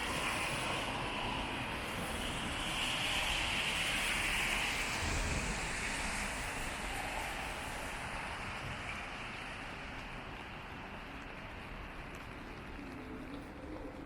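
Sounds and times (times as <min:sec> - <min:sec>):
rainy street noise: 0:00.0 - 0:14.0
tyres hissing on wet pavement: 0:00.0 - 0:14.0.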